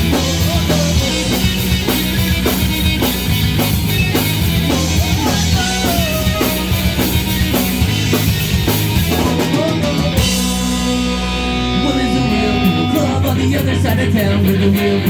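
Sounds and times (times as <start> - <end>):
bass guitar: 0.0 - 15.0
drum kit: 0.0 - 15.0
electric guitar lead: 0.0 - 15.0.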